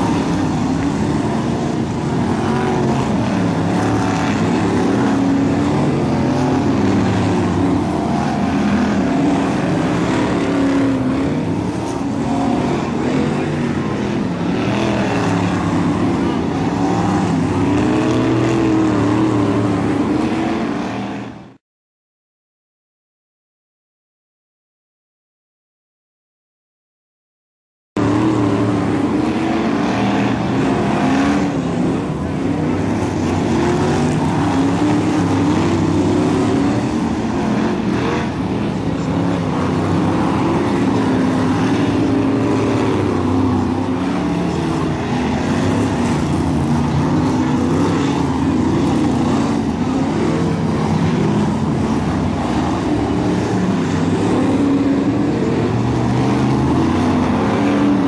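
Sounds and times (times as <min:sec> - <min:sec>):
race car engines revving: 0:00.0 - 0:21.6, 0:28.0 - 0:58.0.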